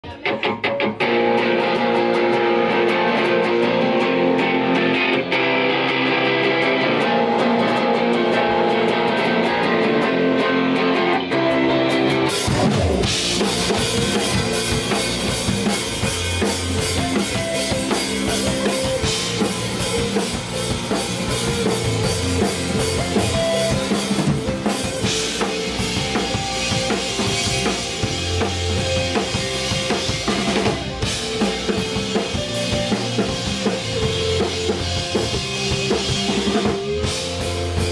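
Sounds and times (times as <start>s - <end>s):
bass guitar: 0.0s - 37.9s
drum kit: 0.0s - 37.9s
electric guitar riff: 0.0s - 37.9s.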